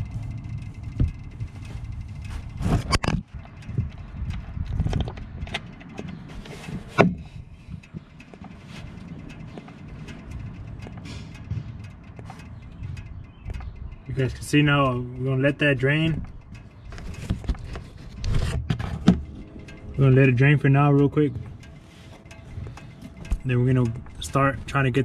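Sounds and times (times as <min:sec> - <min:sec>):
metal clicks and knocks: 0:00.0 - 0:25.0
steady low rumble: 0:00.0 - 0:25.0.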